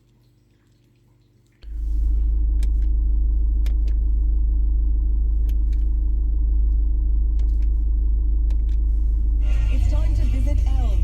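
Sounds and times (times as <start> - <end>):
car interior rumble: 1.6 - 11.0.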